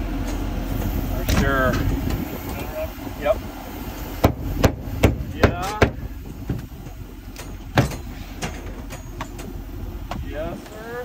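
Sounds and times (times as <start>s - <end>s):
background rumble: 0.0s - 11.0s.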